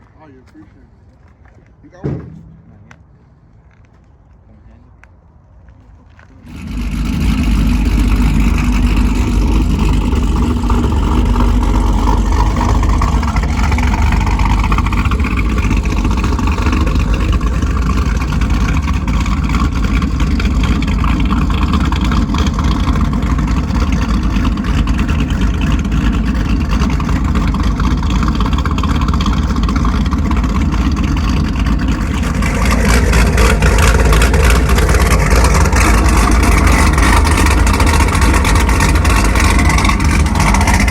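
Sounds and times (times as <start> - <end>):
loud car engine exhaust: 6.3 - 40.9.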